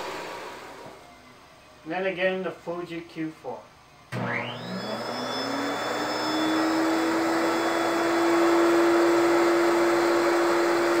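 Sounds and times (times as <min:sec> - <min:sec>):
spray turbine whine: 0:00.0 - 0:02.5, 0:03.8 - 0:11.0.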